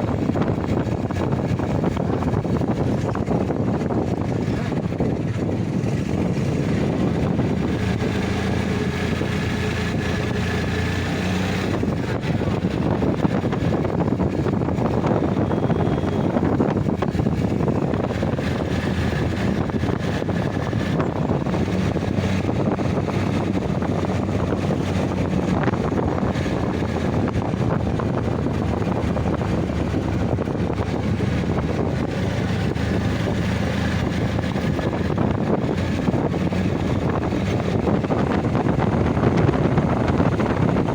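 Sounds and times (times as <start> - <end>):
motor running steadily: 0.0 - 40.9
wind rushing over microphone: 0.0 - 40.9.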